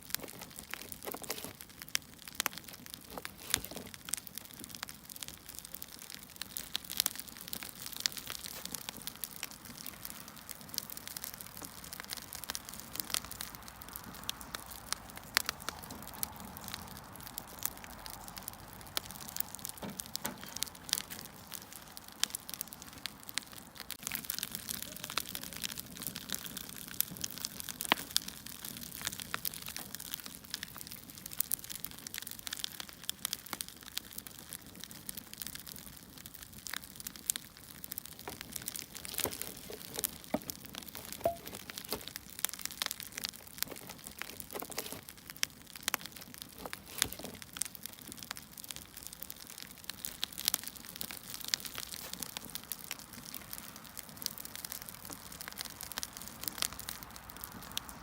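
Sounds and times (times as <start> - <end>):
firewood crackling and popping: 0.0 - 58.0.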